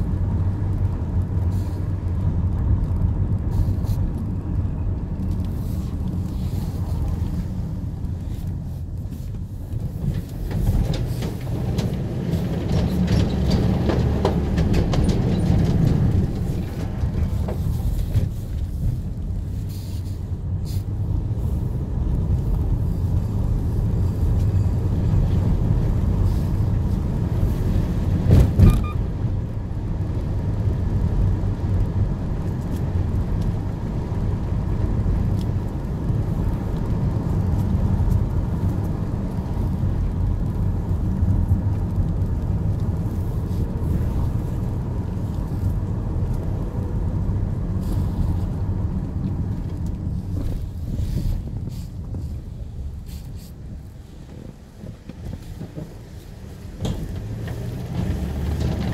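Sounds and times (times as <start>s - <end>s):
car driving rumble: 0.0s - 58.9s.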